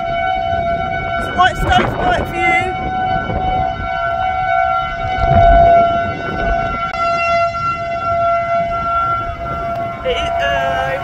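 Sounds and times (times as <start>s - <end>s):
tornado warning siren: 0.0s - 11.0s
wind rumbling on microphone: 0.0s - 11.0s.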